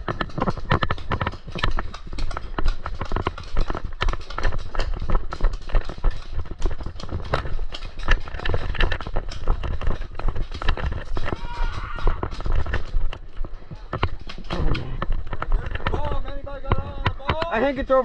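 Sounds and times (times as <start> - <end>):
gear and camera jostling: 0.0 - 18.0.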